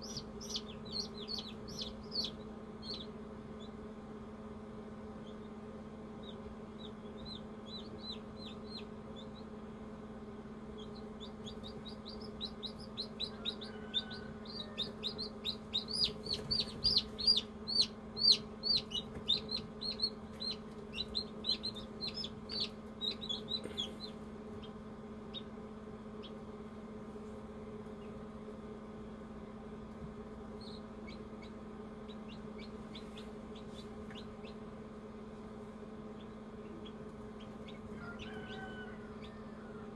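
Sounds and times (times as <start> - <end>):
chicks peeping: 0.0 - 3.9, 5.0 - 9.8, 10.5 - 26.6, 27.8 - 28.3, 29.9 - 39.9
incubator humming: 0.0 - 39.9.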